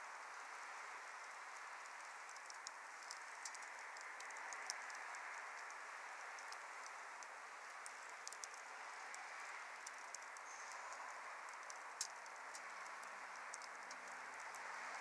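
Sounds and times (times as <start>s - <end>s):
fire crackles and pops: 0.0s - 15.0s
wood fire hissing: 0.1s - 15.0s.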